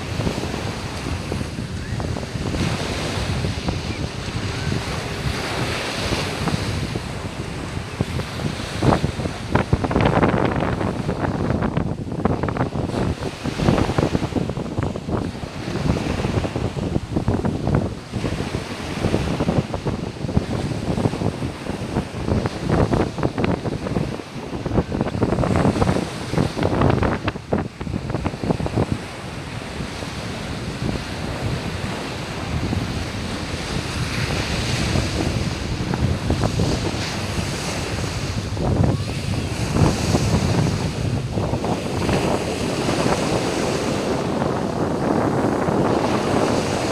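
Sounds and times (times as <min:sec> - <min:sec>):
waves washing onto beach: 0:00.0 - 0:46.9
wind buffeting microphone: 0:00.0 - 0:46.9.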